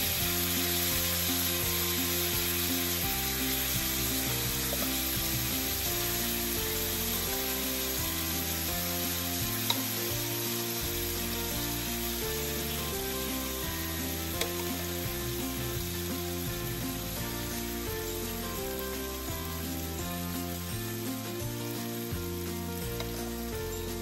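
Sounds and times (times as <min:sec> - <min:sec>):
food sizzling on hot plate: 0:00.0 - 0:24.0
soft background music: 0:00.0 - 0:24.0.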